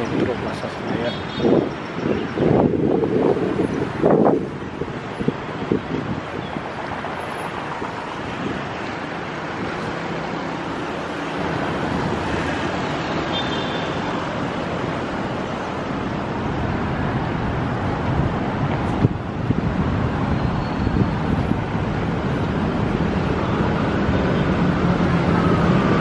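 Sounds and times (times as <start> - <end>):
cars passing on city street: 0.0 - 26.0.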